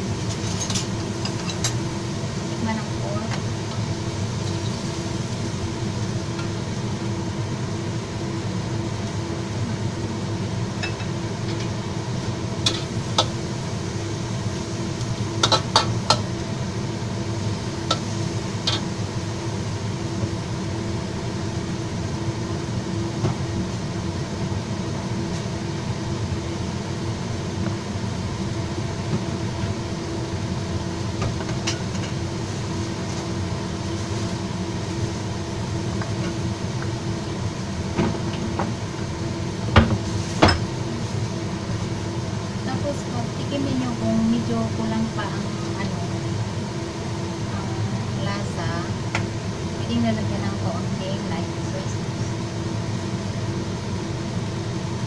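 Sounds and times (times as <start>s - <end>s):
food sizzling in a wok: 0.0s - 55.0s
steady hum: 0.0s - 55.0s.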